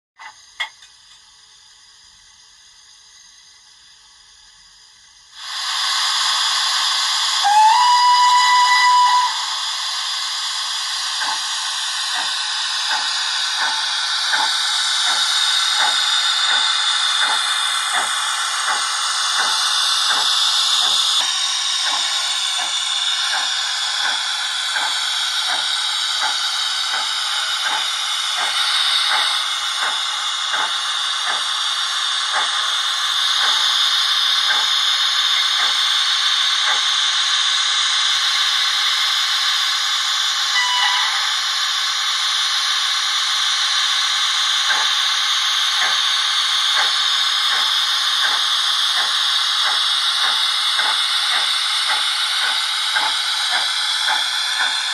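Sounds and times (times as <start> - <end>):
steady steam hiss: 0.2 - 54.9
steam locomotive chuffs: 0.2 - 54.9.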